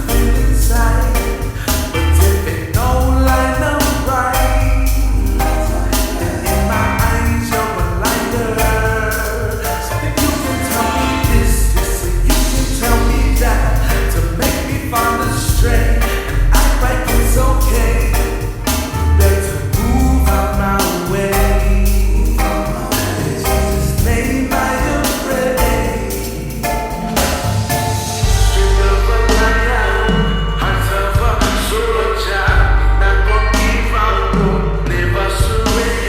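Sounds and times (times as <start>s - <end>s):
gospel song with bass and percussion: 0.0s - 36.0s.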